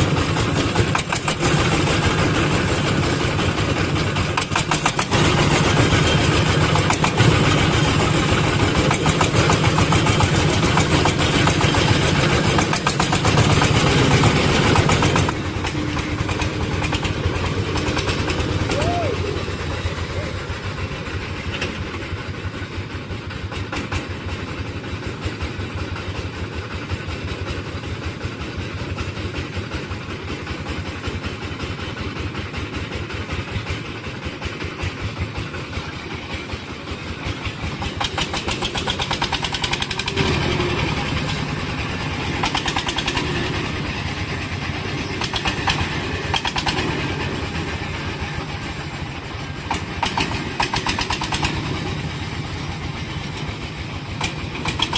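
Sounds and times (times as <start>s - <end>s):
diesel engine chugging: 0.0s - 54.9s.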